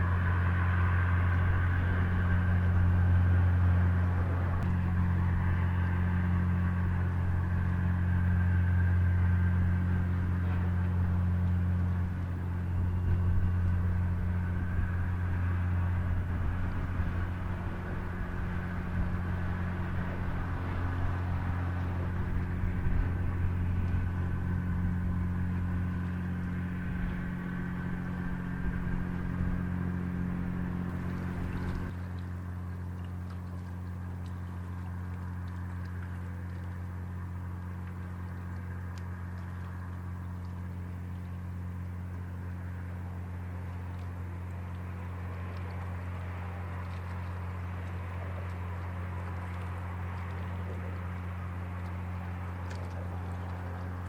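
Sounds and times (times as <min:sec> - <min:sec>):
ship diesel engines humming: 0:00.0 - 0:54.0.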